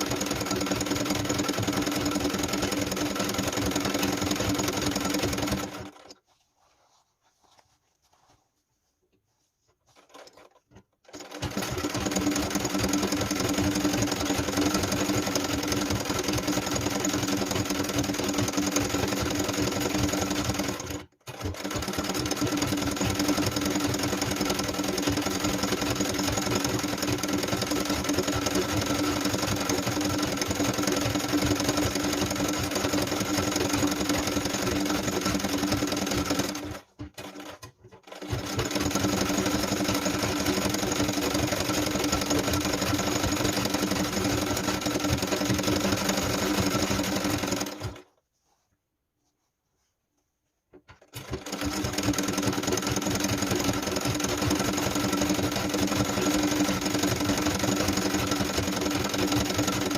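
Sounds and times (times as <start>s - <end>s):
sewing machine stitching: 0.0s - 6.2s, 9.8s - 48.1s, 50.8s - 59.9s.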